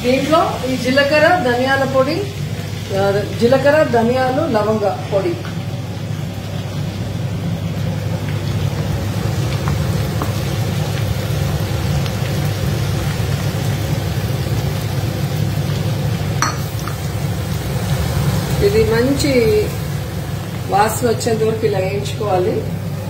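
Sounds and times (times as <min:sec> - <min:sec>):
spices sizzling in hot oil: 0:00.0 - 0:23.0.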